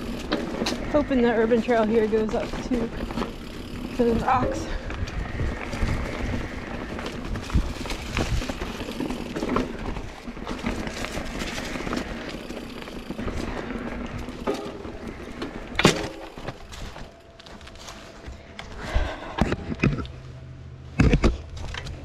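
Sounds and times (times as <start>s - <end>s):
bike clattering over bumps: 0.0s - 17.8s
tyre and wind rumble: 0.0s - 22.0s.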